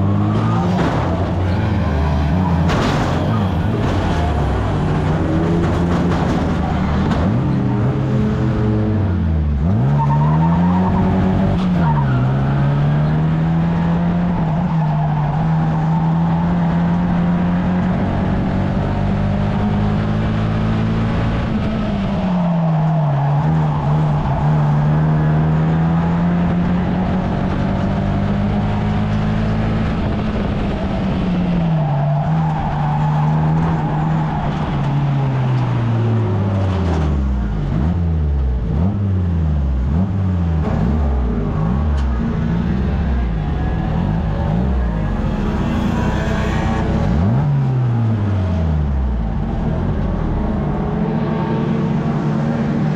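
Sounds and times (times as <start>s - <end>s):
race car engine: 0.0s - 52.9s.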